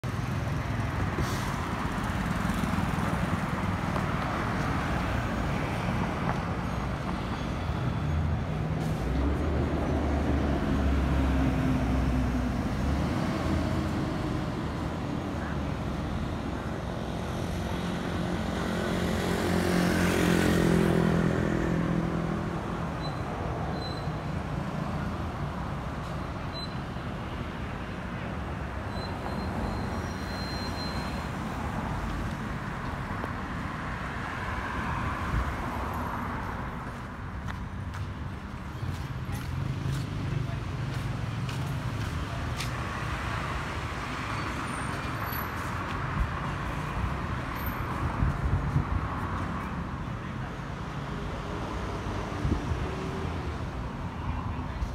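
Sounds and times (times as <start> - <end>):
road traffic: 0.0 - 54.9.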